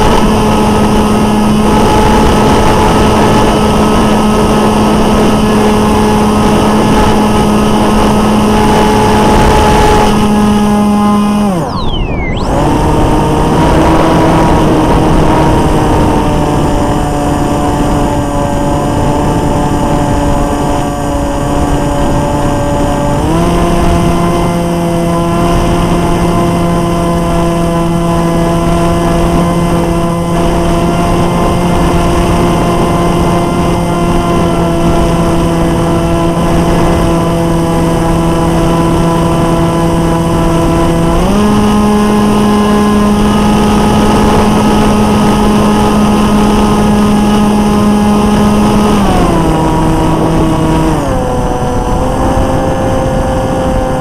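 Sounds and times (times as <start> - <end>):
electric motor propeller whine: 0.0 - 54.0.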